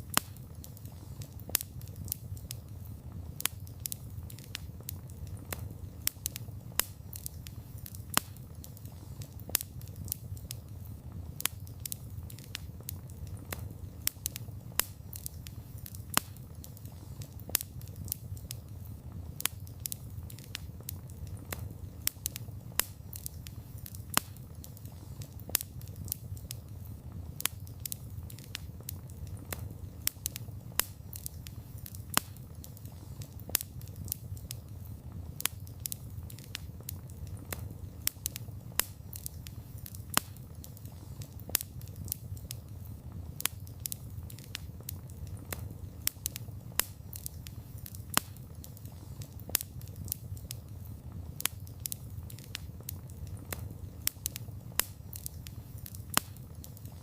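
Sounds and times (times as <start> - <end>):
campfire crackling: 0.0 - 57.0
low rumble of flames: 0.0 - 57.0.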